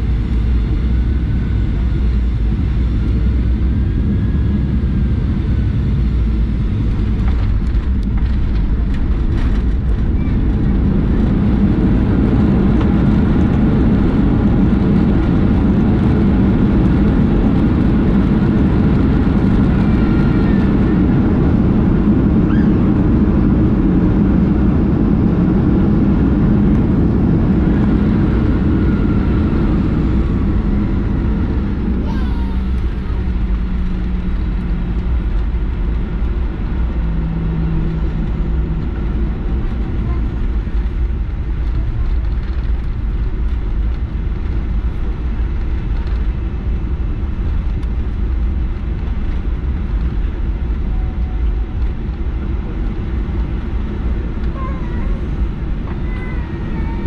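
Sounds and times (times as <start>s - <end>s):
jet engine hum in cabin: 0.0s - 57.0s.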